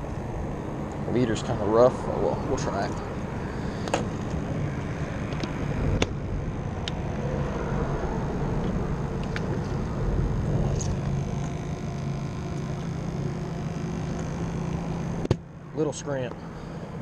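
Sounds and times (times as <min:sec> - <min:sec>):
traffic rumble on bridge: 0:00.0 - 0:17.0.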